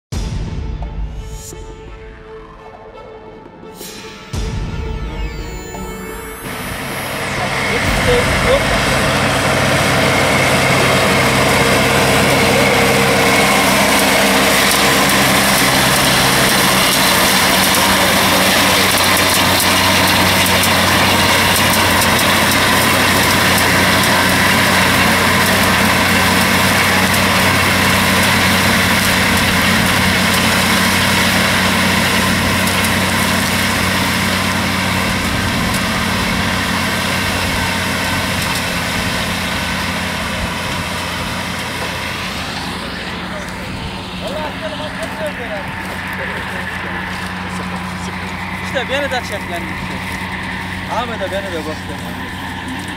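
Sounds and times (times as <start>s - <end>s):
tractor engine running under load: 4.3s - 52.9s
mower discs whirring hiss: 6.2s - 52.9s.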